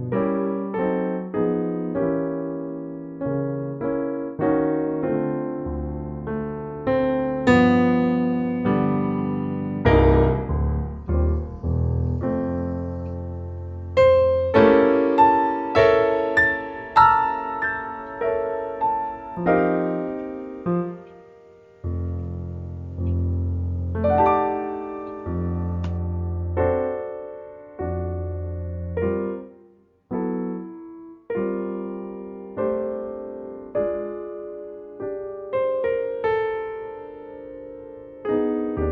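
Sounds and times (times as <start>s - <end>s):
solo piano chords: 0.0s - 38.9s.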